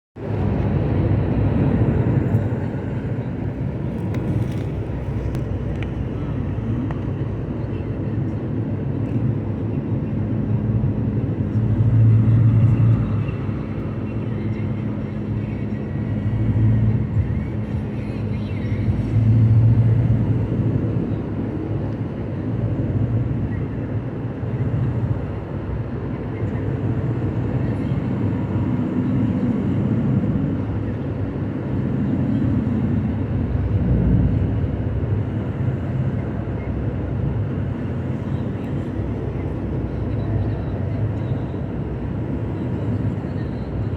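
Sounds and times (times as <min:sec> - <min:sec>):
car engine and tyre rumble: 0:00.1 - 0:43.9.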